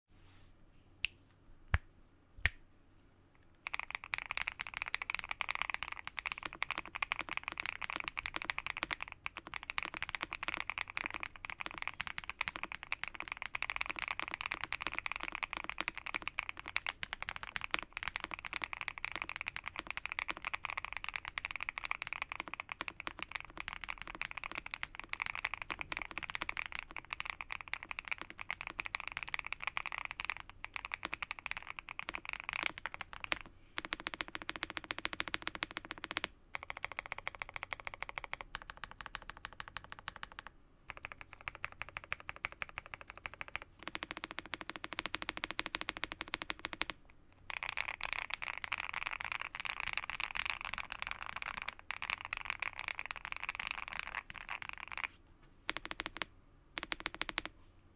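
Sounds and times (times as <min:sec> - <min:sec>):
mechanical keyboard typing: 0:03.6 - 0:57.5.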